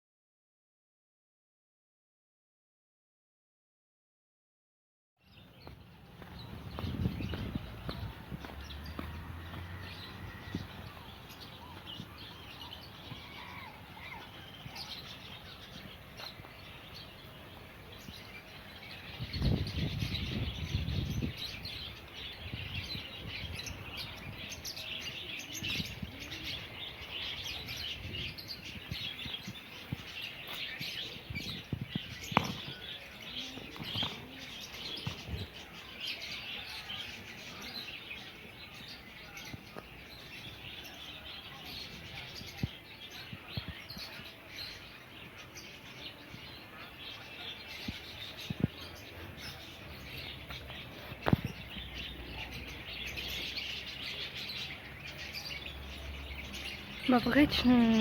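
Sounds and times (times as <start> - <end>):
small birds chirping and twittering: 5.2 - 58.0.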